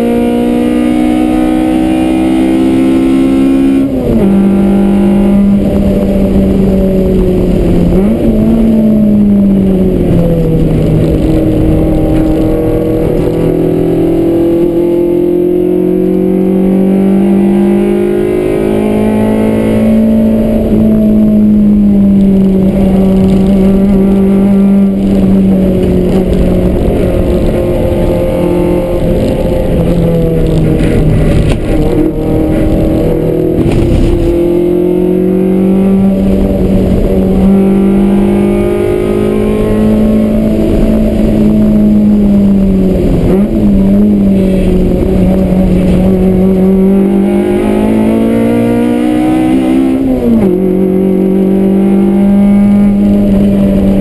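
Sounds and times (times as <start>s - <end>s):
car engine revving high: 0.0s - 54.0s.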